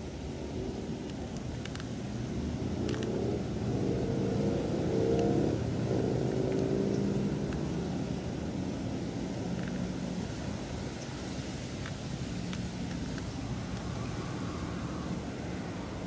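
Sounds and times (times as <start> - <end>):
car passing by: 2.3 - 16.0.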